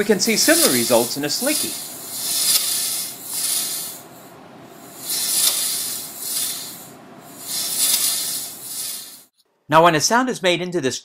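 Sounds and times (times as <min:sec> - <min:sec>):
metal slinky hissing: 0:00.0 - 0:09.3.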